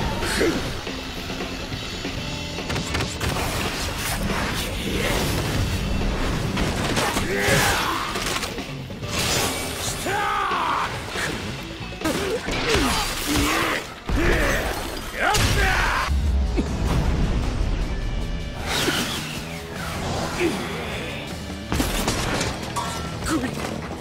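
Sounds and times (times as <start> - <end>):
dramatic music: 0.0 - 24.0.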